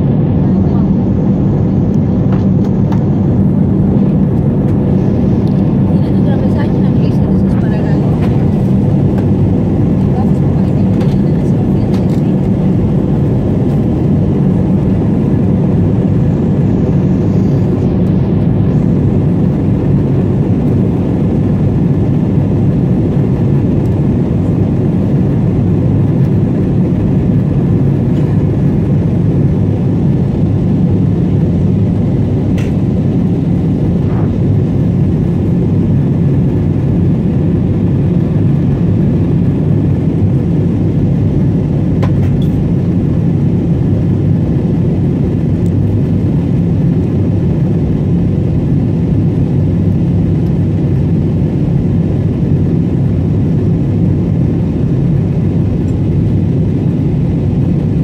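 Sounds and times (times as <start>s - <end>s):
jet airliner cabin engine rumble: 0.0s - 58.0s.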